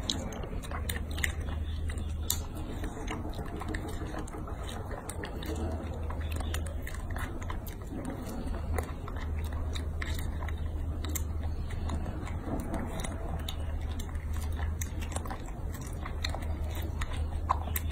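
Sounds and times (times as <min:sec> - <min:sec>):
monkey chewing fruit: 0:00.0 - 0:17.9
steady low hum: 0:00.0 - 0:17.9.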